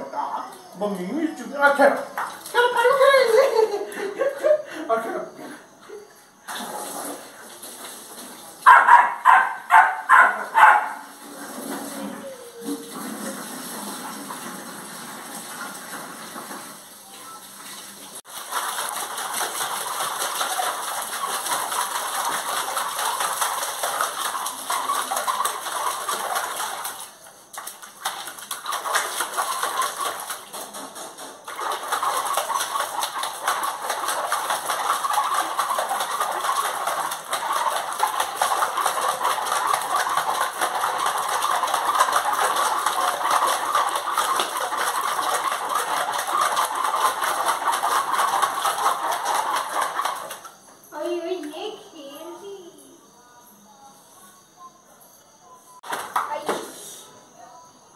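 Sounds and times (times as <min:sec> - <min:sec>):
puppy splashing water in a tub: 0:00.0 - 0:52.2, 0:55.8 - 0:56.8.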